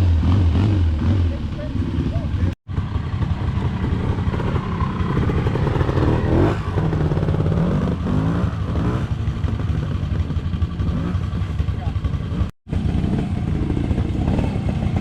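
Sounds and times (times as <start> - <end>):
motorcycle engine blipping: 0.1 - 15.0.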